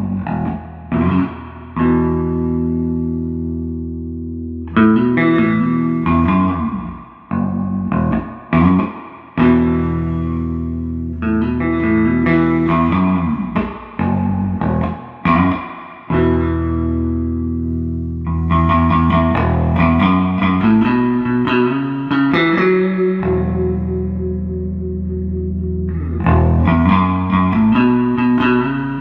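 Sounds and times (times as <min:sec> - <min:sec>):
electric bass guitar riff: 0:00.0 - 0:29.0.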